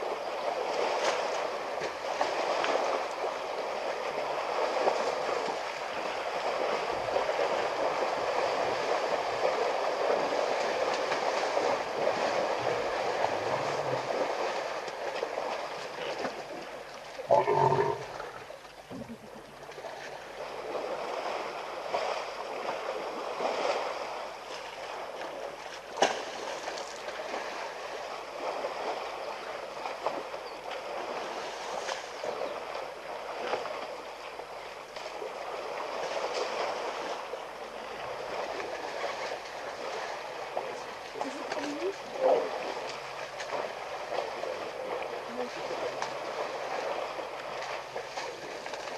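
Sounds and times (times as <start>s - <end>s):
mud and water sloshing: 0.0s - 48.9s.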